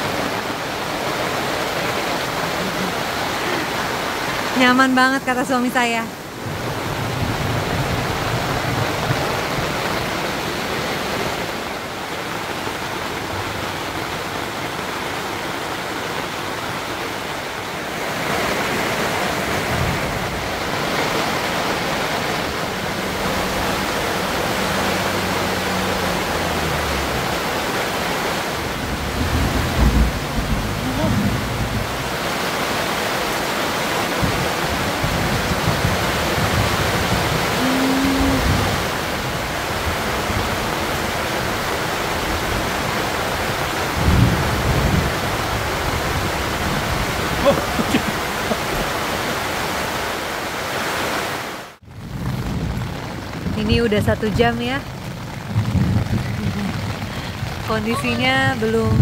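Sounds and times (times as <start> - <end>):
heavy rain on tent fabric: 0.0 - 59.0.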